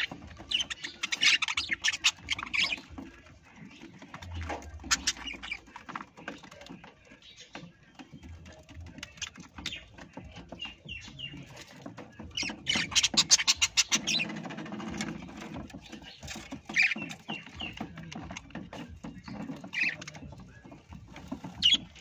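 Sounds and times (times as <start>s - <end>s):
scratching and clicking: 0.0s - 22.0s.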